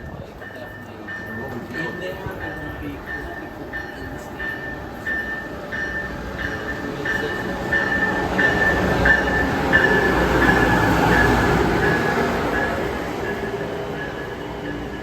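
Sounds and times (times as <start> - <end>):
train rumble: 0.0 - 15.0
bell ringing: 0.4 - 15.0.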